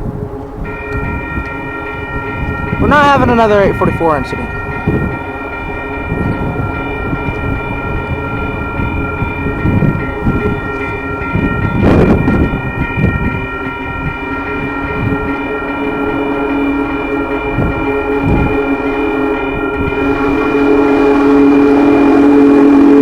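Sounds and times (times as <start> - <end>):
train chime horn blast: 0.0 - 23.0
train rumble: 0.0 - 23.0.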